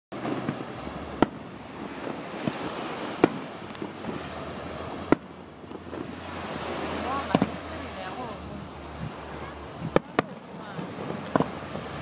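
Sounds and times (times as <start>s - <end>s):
sea surf: 0.1s - 12.0s
wind: 0.1s - 12.0s.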